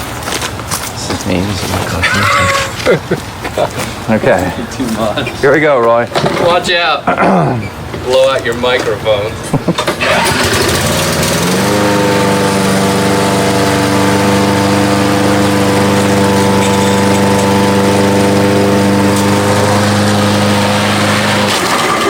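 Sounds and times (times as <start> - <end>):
lawn mower engine: 0.0 - 22.0.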